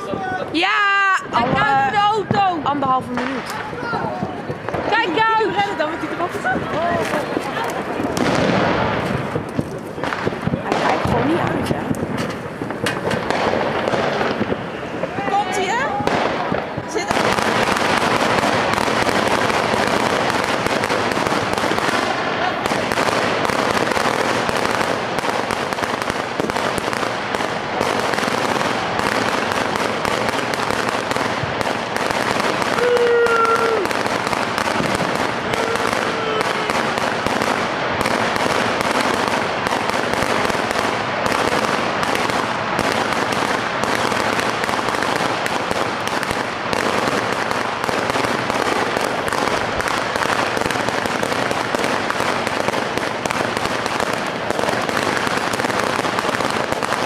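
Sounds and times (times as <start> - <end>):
firecrackers banging rapidly: 0.0 - 57.0.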